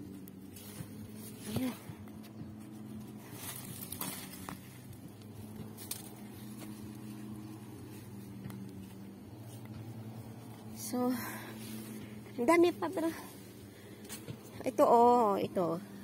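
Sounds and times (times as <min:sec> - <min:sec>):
rustling through grass and plants: 0:00.0 - 0:16.0
steady low hum: 0:00.0 - 0:16.0.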